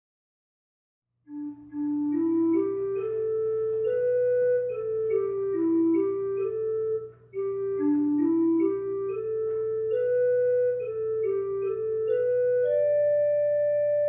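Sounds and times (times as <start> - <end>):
slow melody of held notes: 1.3 - 14.0.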